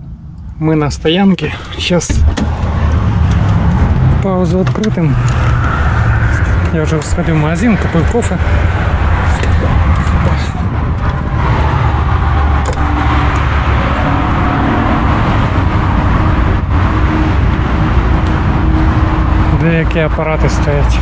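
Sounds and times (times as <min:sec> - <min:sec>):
faint engine hum: 0:00.0 - 0:21.0
low rumble of road traffic: 0:00.0 - 0:21.0.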